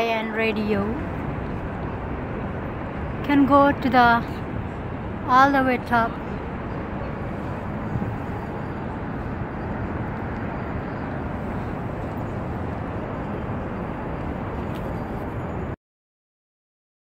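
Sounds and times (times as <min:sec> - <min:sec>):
traffic rumble: 0:00.0 - 0:15.8.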